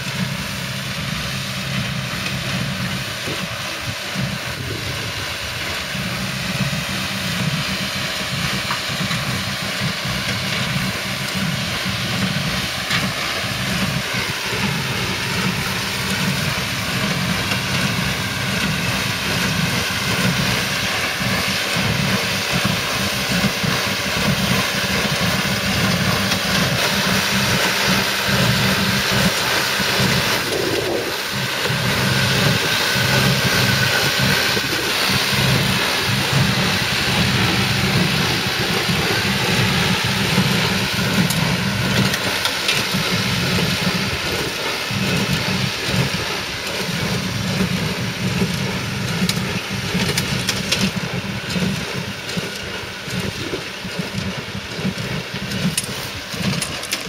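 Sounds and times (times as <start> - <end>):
tractor diesel engine running: 0.0 - 57.0
baler mechanism working: 10.0 - 57.0.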